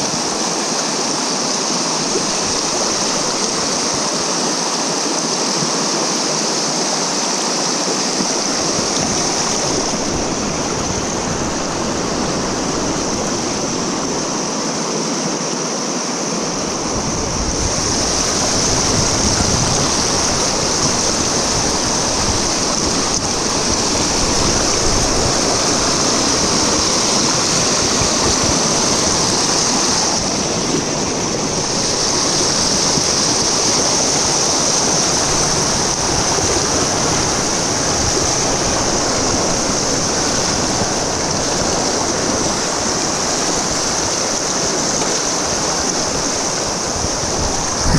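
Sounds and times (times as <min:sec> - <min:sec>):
river water rushing and splashing: 0:00.0 - 0:47.9.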